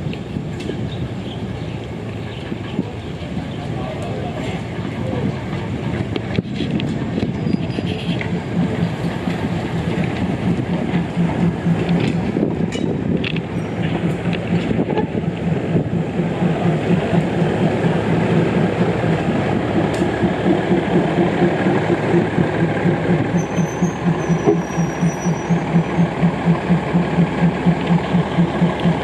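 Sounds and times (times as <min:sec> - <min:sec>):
train rumbling on rails: 0:00.0 - 0:29.0
train wheels clicking: 0:01.5 - 0:29.0.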